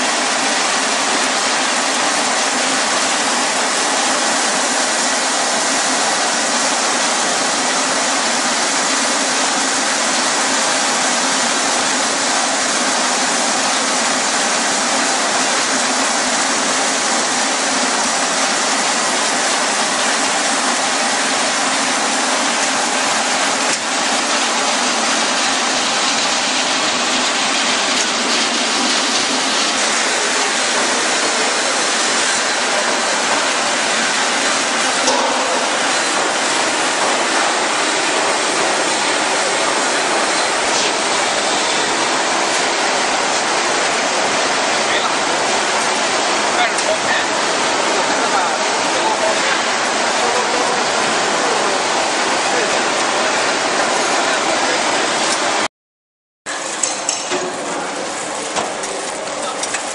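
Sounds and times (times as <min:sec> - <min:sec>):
machine hissing: 0:00.0 - 0:55.0.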